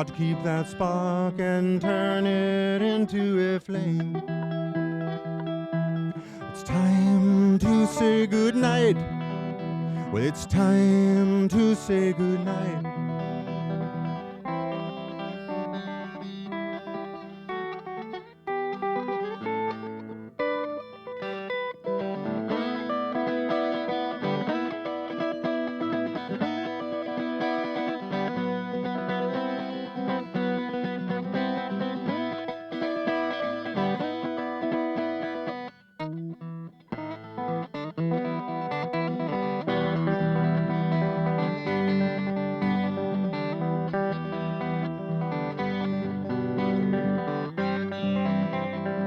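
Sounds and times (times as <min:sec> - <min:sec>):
electric guitar solo: 0:00.0 - 0:49.0.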